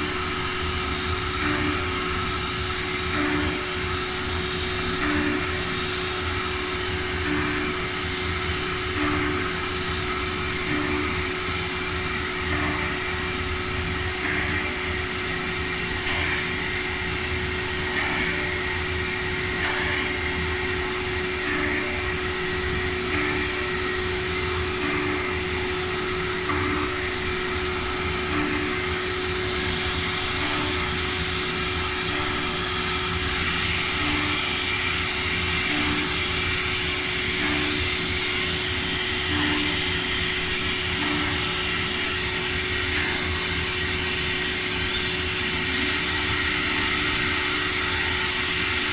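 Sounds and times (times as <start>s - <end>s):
cnc machine whirring: 0.0s - 48.9s.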